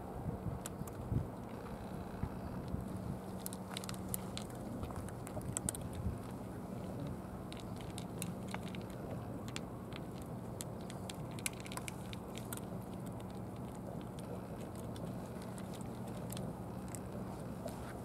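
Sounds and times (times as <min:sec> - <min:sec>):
cat crunching dry kibble: 0:02.6 - 0:18.0.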